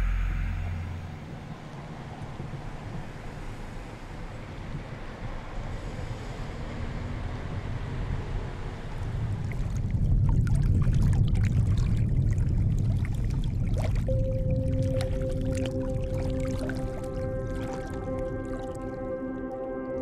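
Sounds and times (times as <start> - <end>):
wind noise on microphone: 0.0 - 18.6.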